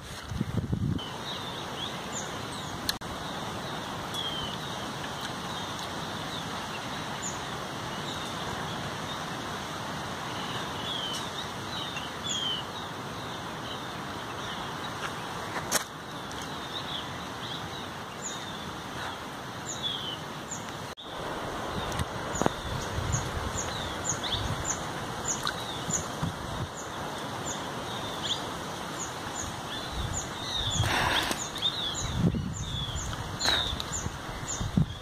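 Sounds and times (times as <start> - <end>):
small birds chirping: 1.0 - 9.4, 10.2 - 35.0
forest ambience hiss: 1.0 - 35.0.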